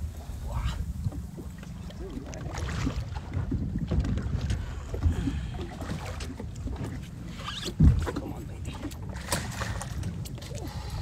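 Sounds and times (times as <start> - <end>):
water splashing against boat: 0.0 - 11.0
wind buffeting microphone: 0.0 - 11.0.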